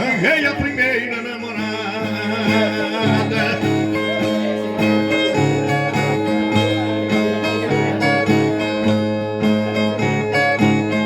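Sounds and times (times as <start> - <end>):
picked string melody: 0.0 - 11.0.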